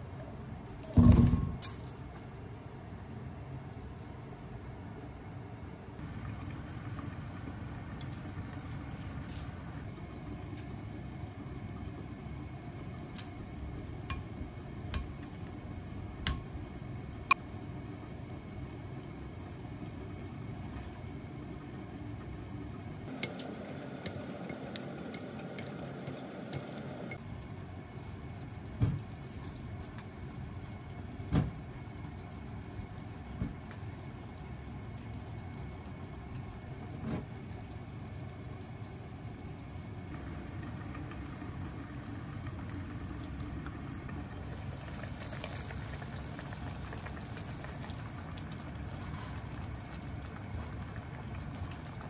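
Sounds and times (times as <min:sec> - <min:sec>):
low kitchen hum: 0:00.0 - 0:52.0.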